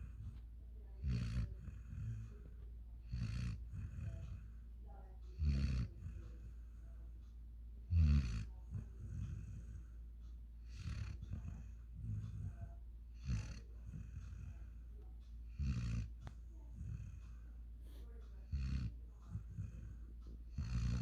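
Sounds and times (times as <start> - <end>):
puppy snoring: 0.0 - 21.0.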